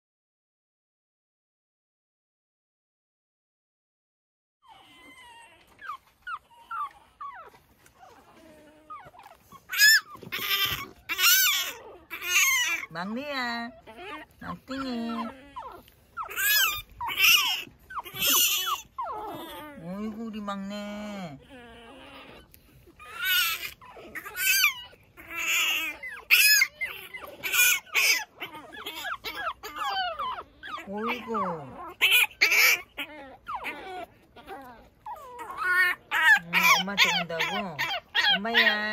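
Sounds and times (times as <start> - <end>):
puppy high-pitched cries: 4.6 - 38.9
puppy whining: 4.6 - 38.9.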